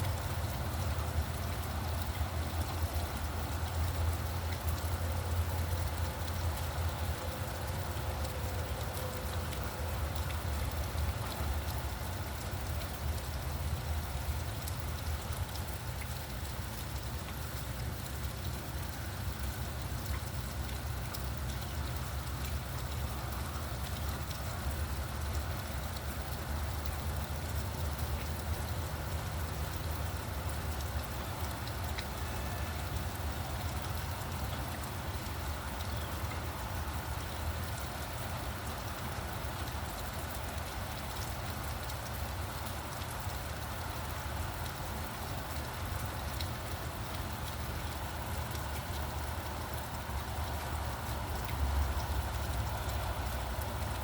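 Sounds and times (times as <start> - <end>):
low traffic rumble: 0.0 - 54.0
rain pattering: 0.0 - 54.0.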